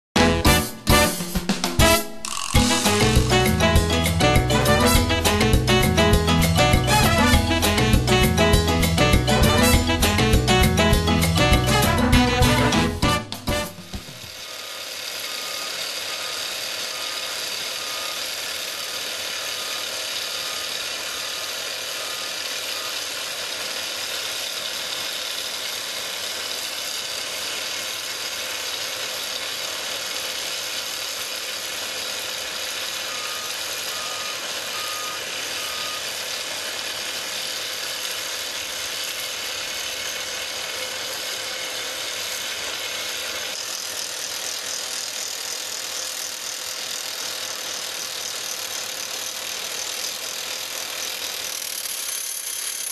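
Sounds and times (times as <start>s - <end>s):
rock drill hammering: 0.8s - 52.9s.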